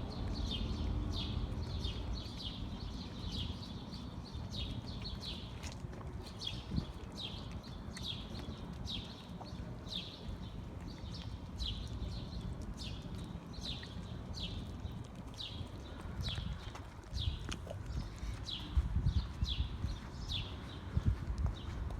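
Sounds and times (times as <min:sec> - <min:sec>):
low rumble of outdoor noise: 0:00.0 - 0:21.9.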